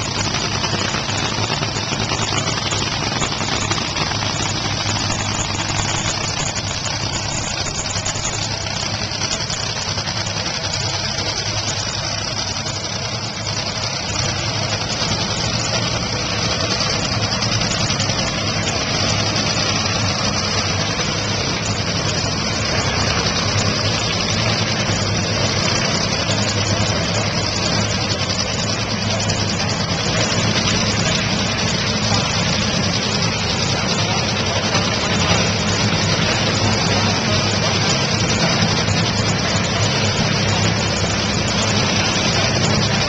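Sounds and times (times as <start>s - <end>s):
dragster engines idling loudly: 0.0s - 43.0s.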